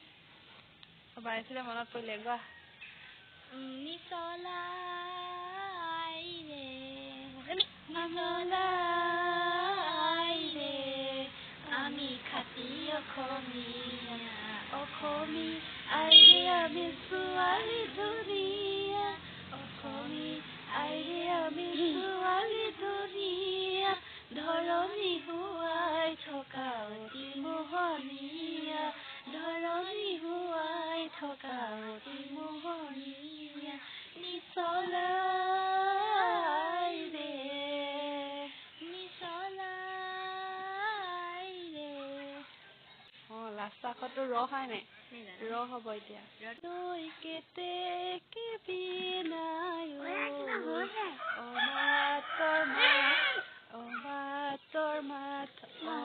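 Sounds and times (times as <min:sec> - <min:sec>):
girl and woman singing: 0:03.4 - 0:44.3, 0:45.4 - 0:56.0.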